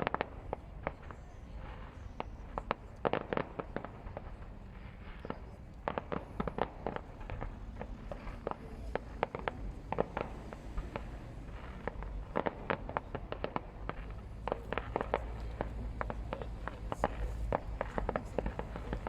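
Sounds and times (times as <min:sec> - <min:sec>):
distant fireworks bangs and crackles: 0:00.0 - 0:19.0.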